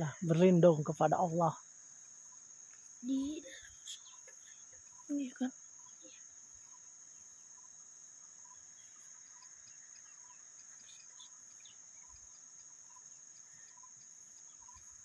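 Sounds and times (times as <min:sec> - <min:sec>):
insects droning: 0:00.0 - 0:15.0
soft chirps: 0:01.4 - 0:15.0.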